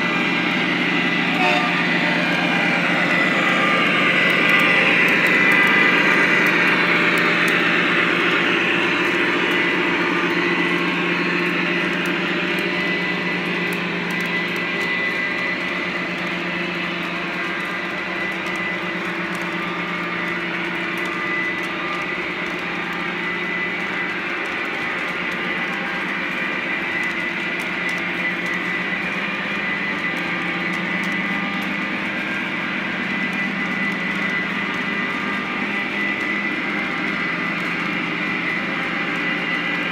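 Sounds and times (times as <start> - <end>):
model train hum and rumble: 0.0 - 39.9.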